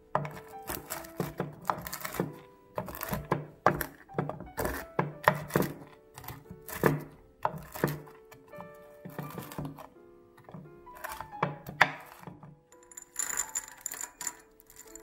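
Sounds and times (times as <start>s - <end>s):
knife chopping nuts on wooden board: 0.0s - 12.6s
soft background music: 0.0s - 15.0s.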